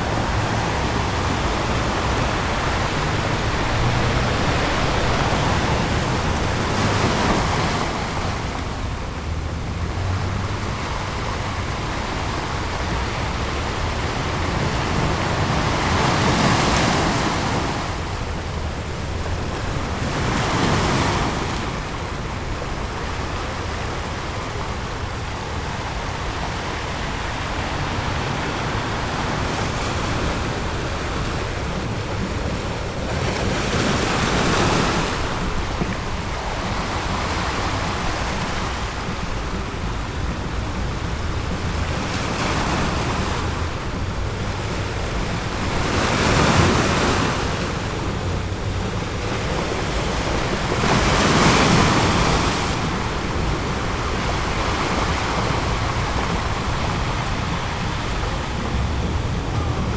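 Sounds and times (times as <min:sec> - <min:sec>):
surf breaking on a beach: 0:00.0 - 0:59.9.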